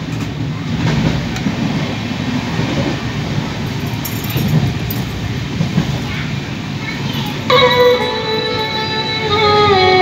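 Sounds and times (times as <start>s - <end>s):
train carriage rumbling on rails: 0.0s - 10.0s.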